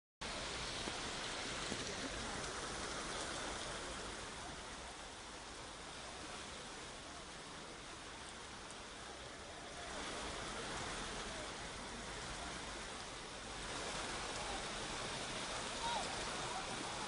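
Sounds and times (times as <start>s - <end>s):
floodwater running: 0.2s - 17.0s
heavy rain: 0.2s - 17.0s.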